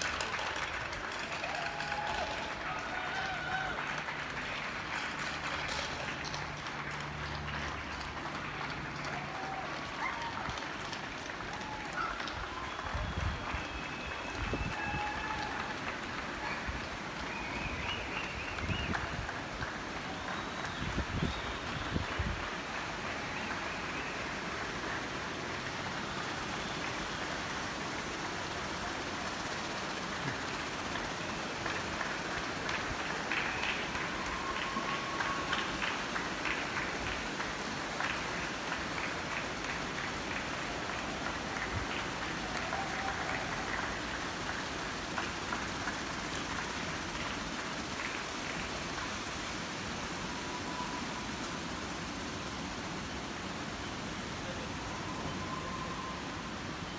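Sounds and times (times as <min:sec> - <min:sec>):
crowd applause: 0:00.0 - 0:56.9.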